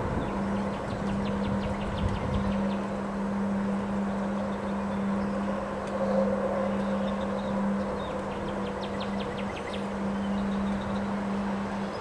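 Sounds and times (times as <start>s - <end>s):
steady low hum: 0.0s - 12.0s
storm wind in trees: 0.0s - 12.0s
wind rumbling on microphone: 0.0s - 12.0s.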